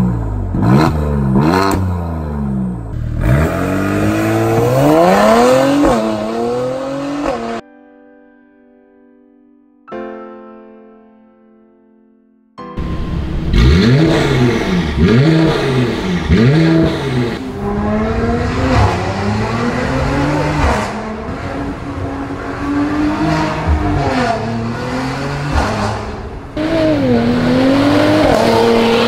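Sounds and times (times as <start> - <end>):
car accelerating: 0.0 - 7.6, 12.8 - 29.0
car engine revving: 0.0 - 7.6, 12.8 - 29.0.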